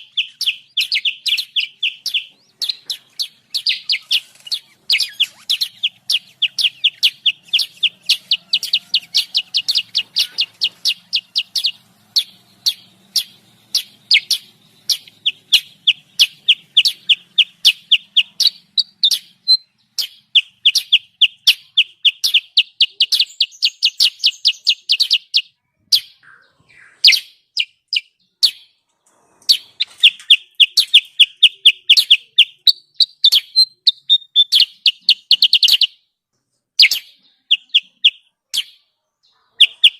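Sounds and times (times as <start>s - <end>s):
bulbul giving sharp rapid chirps: 0.0s - 26.3s, 29.5s - 36.0s, 36.8s - 38.9s.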